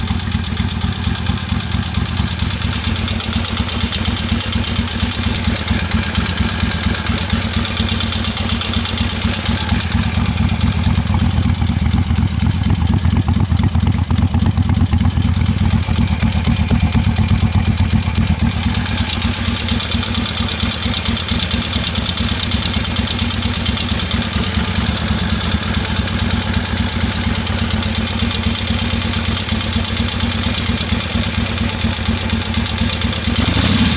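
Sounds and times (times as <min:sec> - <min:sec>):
engine cylinder knocking: 0:00.0 - 0:33.9
motorcycle engine idling: 0:00.0 - 0:33.9.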